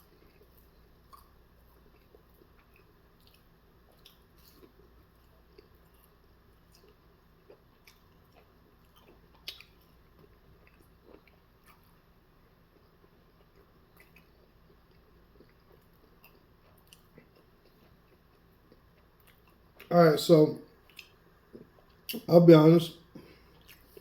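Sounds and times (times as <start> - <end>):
chewing food: 0.0 - 19.9, 20.7 - 22.3, 23.1 - 24.0.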